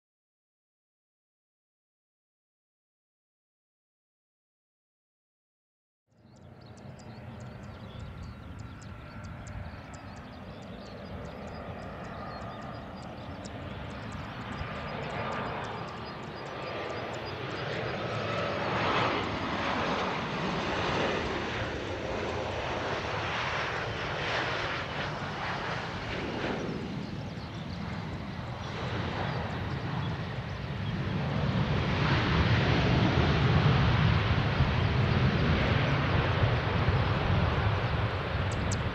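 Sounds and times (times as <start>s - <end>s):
jet engines whine and rumble: 6.1s - 38.9s.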